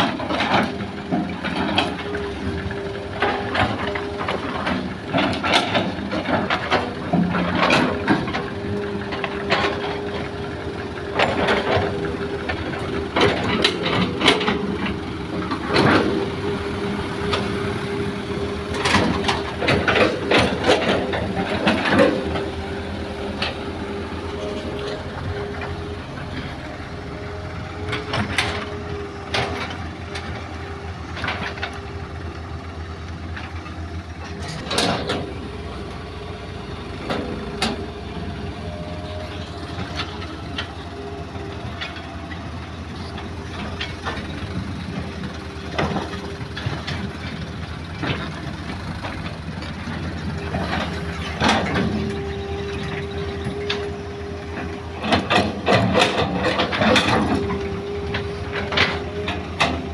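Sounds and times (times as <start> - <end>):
diesel engines running: 0.0 - 59.9
steady engine whine: 0.0 - 59.9.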